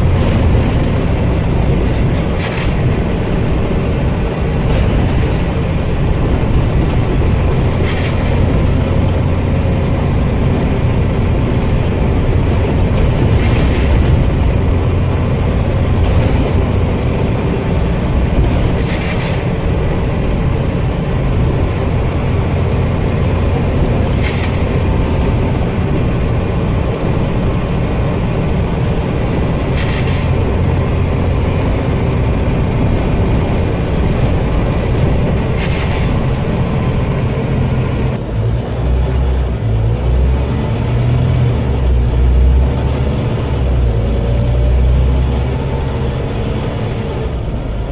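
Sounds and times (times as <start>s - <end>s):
bus engine low rumble: 0.0s - 47.9s.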